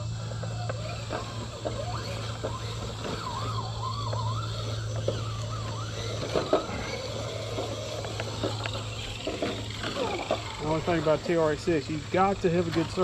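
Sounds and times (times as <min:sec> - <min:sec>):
electric toy truck motor whining: 0:00.0 - 0:13.0
steady low hum: 0:00.0 - 0:13.0.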